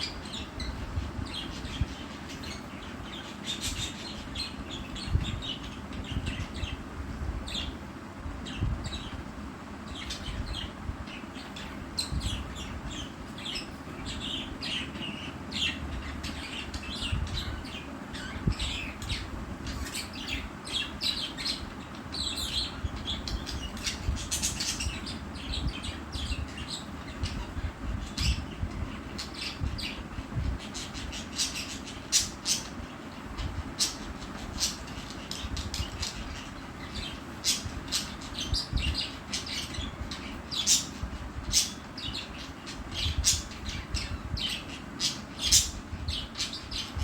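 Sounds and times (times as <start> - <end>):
budgerigars chirping: 0.0 - 6.8, 9.9 - 47.0.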